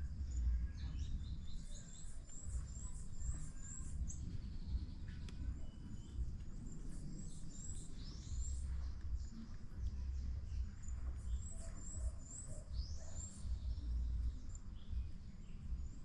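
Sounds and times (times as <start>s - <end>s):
low rumble of wind: 0.0s - 16.0s
songbird chirping: 0.0s - 16.0s.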